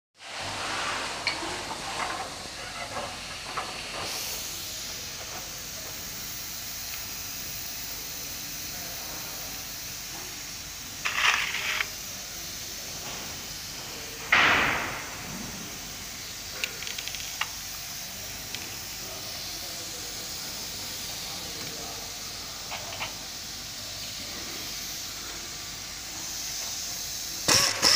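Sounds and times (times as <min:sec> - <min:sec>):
background hiss: 0:00.2 - 0:27.9.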